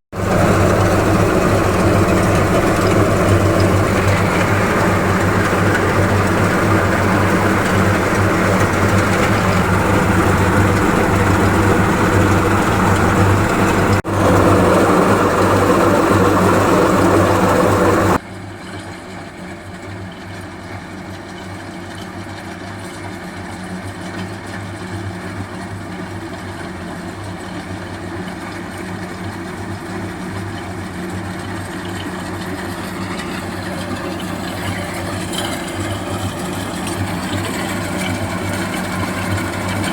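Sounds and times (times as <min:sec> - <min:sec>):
tractor diesel engine running: 0:00.1 - 0:18.2, 0:24.7 - 0:39.9.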